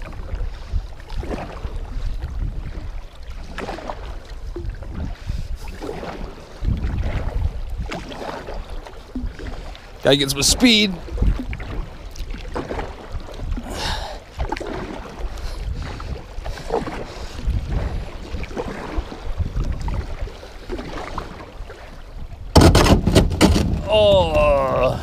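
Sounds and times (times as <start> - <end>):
paddle splashing through water: 0.0 - 25.0
wind rumble on microphone: 0.0 - 25.0.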